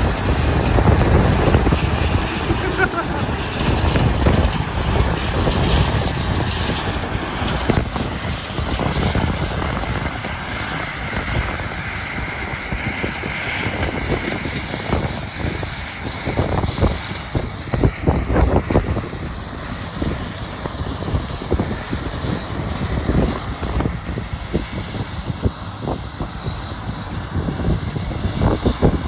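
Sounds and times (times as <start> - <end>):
harvest machinery running: 0.0 - 29.0
wind buffeting microphone: 0.0 - 29.0.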